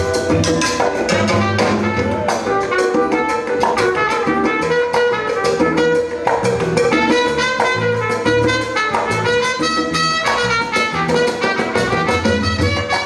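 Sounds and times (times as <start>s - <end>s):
salsa music with percussion: 0.0s - 13.0s.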